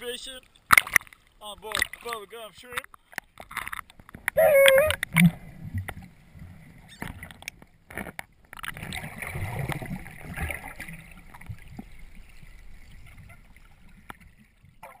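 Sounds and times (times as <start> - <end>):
water sloshing and gurgling: 0.0 - 15.0.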